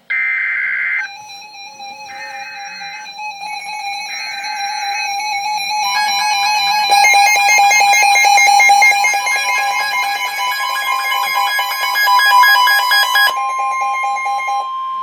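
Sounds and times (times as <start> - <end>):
harsh data header tones: 0.0 - 15.0
music-like electronic tones: 0.0 - 15.0
steady alert tone: 1.0 - 15.0.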